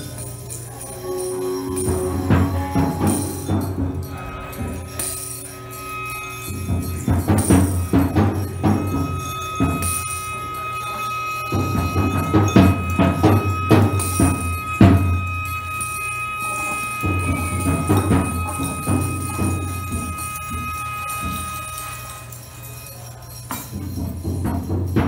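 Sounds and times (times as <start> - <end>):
steady high tone: 0.0 - 24.1
sharp percussive hits: 0.0 - 25.0.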